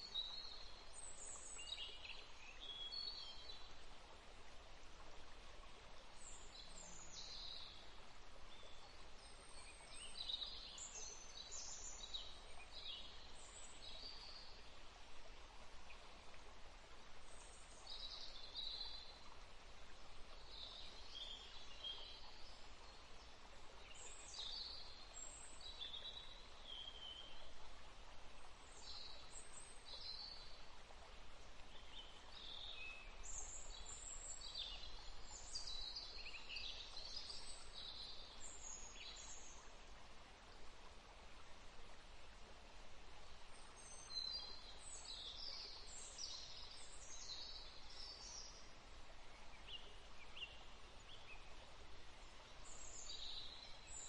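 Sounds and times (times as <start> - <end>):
faint birdsong chirps: 0.0 - 54.0
steady low hiss: 0.0 - 54.0.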